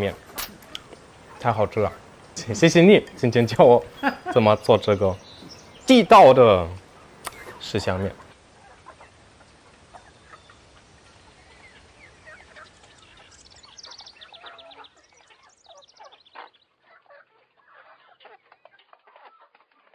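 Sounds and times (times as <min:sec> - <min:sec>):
faint chickens clucking: 0:00.0 - 0:19.9
small birds chirping: 0:00.0 - 0:19.9.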